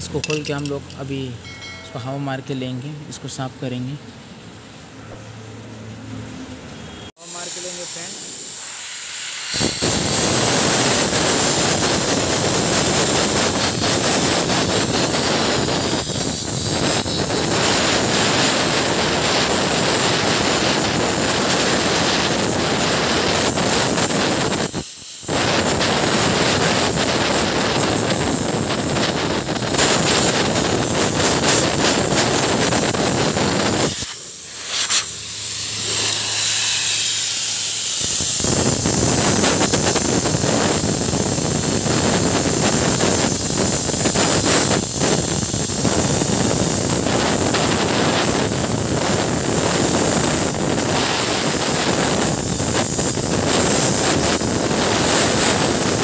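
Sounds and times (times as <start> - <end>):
compressed air hissing: 7.2 - 56.0.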